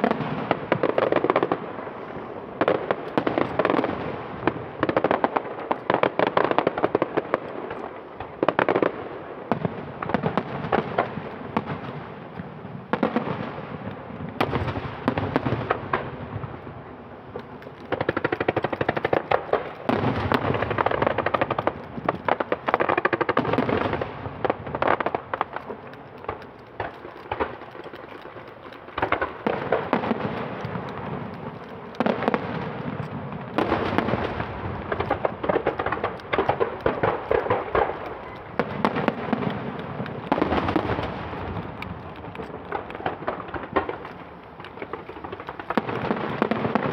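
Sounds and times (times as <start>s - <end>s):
fireworks bangs and crackle: 0.0s - 46.9s.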